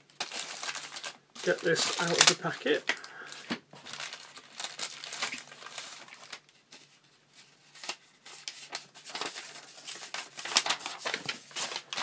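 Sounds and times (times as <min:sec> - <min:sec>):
plastic packet rustling: 0:00.0 - 0:07.0, 0:07.7 - 0:12.0.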